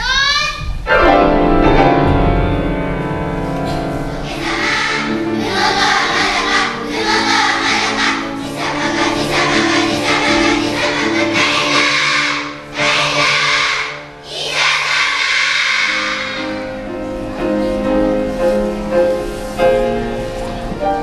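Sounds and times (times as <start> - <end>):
instrumental accompaniment: 0.7 - 21.0
children's choir singing: 3.5 - 21.0.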